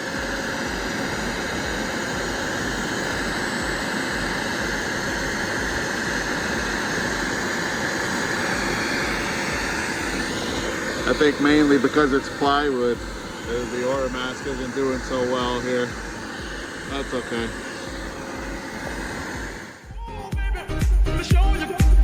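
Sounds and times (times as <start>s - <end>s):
router spindle carving plywood: 0.0s - 19.9s.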